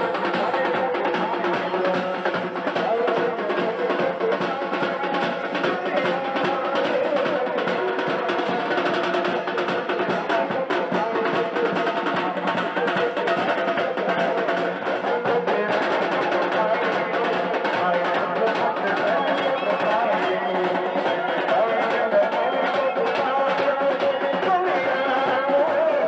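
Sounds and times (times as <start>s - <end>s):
band playing fast drumming and melody: 0.0s - 26.0s.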